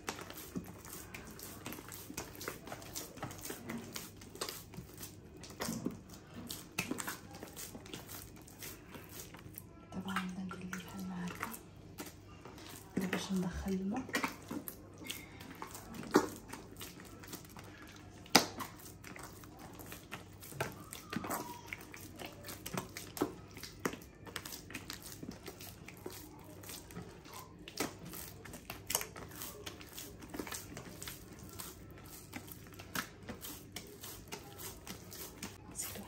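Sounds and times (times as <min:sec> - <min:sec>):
hands kneading wet dough: 0:00.0 - 0:36.0.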